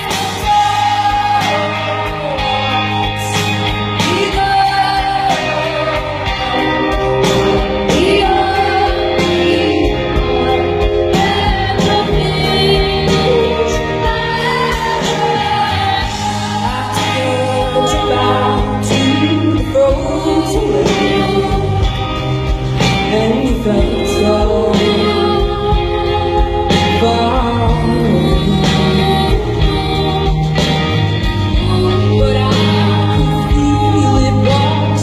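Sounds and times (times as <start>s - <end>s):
women singing in harmony: 0.0s - 22.2s, 22.9s - 30.8s, 31.4s - 35.0s
bass guitar: 0.0s - 35.0s
drum beats: 0.0s - 35.0s
guitar: 0.0s - 35.0s.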